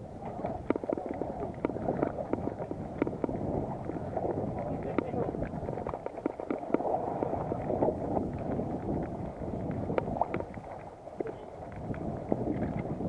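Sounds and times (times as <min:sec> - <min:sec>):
wind buffeting microphone: 0:00.0 - 0:13.0
water splashing against boat hull: 0:00.2 - 0:13.0
faint ticks: 0:00.4 - 0:04.0, 0:04.8 - 0:07.3, 0:08.2 - 0:13.0.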